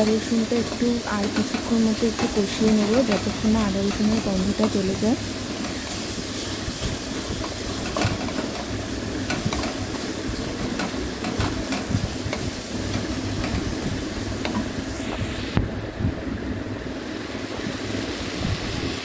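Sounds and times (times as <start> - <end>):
paste sizzling in hot oil: 0.0 - 15.6.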